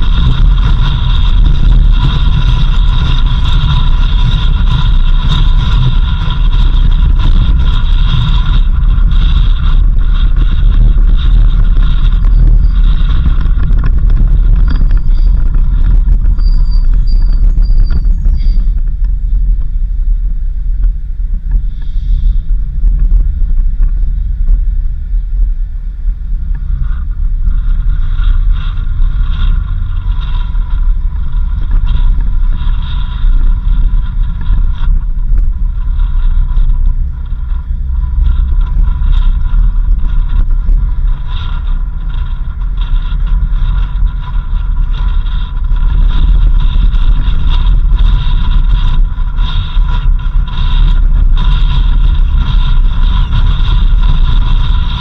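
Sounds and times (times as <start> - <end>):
high-pitched whine: 0.0 - 55.0
vehicle engine and tyre rumble: 0.0 - 55.0.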